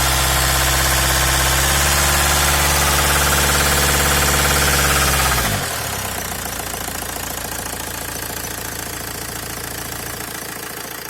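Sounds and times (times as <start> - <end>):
diesel engine idling with clatter: 0.0 - 11.0.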